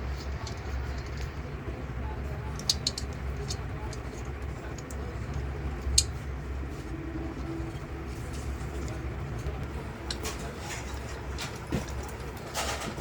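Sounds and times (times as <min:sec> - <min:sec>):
vacuum pump humming: 0:00.0 - 0:13.0.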